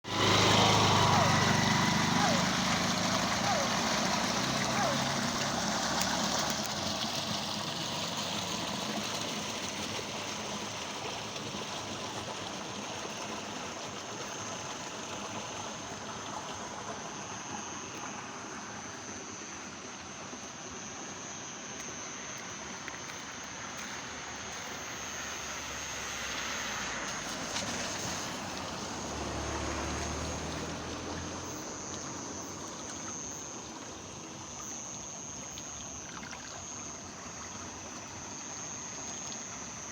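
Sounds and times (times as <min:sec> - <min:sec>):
rainwater running and trickling: 0:00.0 - 0:18.4, 0:22.8 - 0:39.9.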